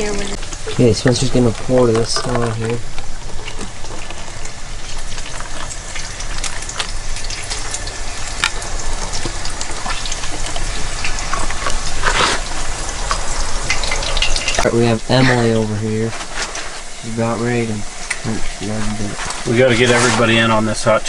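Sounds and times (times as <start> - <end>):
water pouring into paper cups: 0.0 - 21.0.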